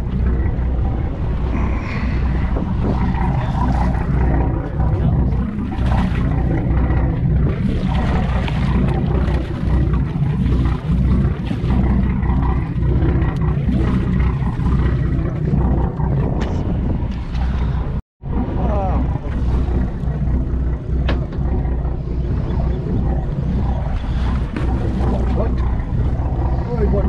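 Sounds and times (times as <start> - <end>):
boat engine: 0.0 - 27.0
wind buffeting microphone: 0.0 - 27.0.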